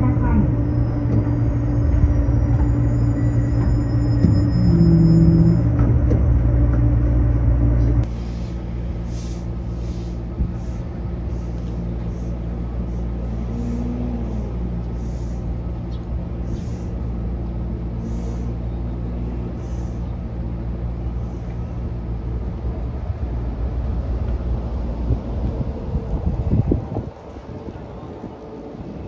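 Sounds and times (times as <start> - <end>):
train interior rumble and hum: 0.0 - 29.0.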